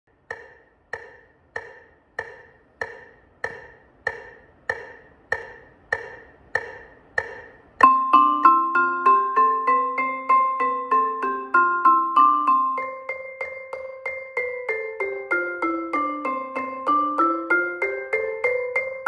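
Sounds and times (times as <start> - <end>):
metronome ticking: 0.1 - 19.0
marimba notes: 1.6 - 19.0.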